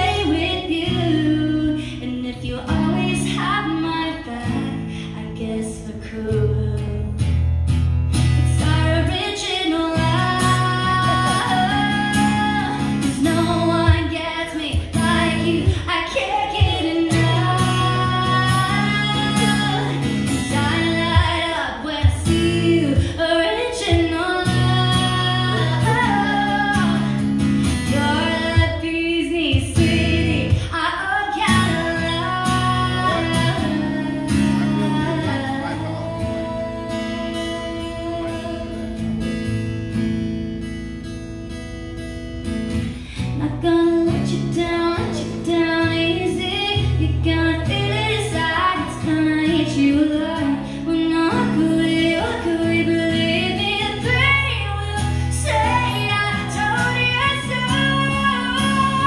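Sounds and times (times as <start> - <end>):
woman singing: 0.0 - 7.6, 8.2 - 39.9, 42.9 - 59.0
acoustic guitar strumming: 0.0 - 59.0.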